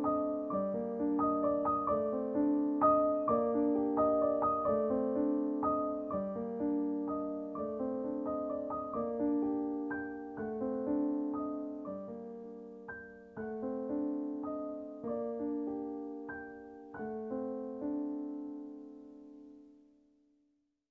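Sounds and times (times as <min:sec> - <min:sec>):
slow solo piano: 0:00.0 - 0:20.1.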